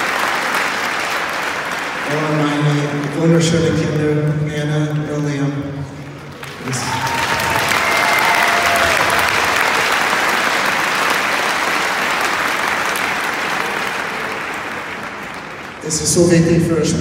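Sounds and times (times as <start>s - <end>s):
crowd applauding: 0.0s - 5.1s, 6.0s - 16.4s.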